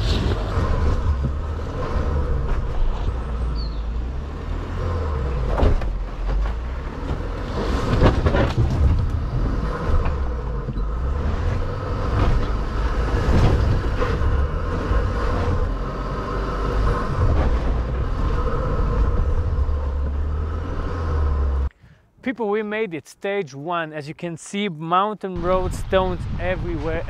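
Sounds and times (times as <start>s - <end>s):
low rumble of drivetrain and tyres: 0.0s - 22.2s.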